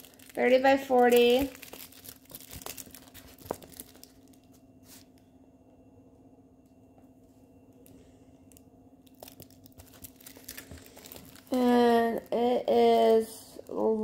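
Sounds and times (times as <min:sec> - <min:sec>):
plastic sleeve rustling: 0:00.0 - 0:05.2, 0:07.7 - 0:14.0
steady low hum: 0:00.0 - 0:14.0.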